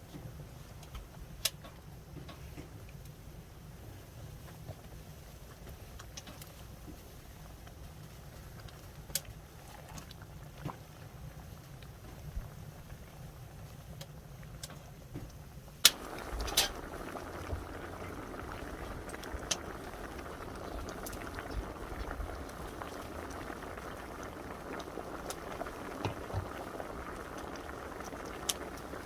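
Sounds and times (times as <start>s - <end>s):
soup boiling and bubbling: 0.3s - 29.0s.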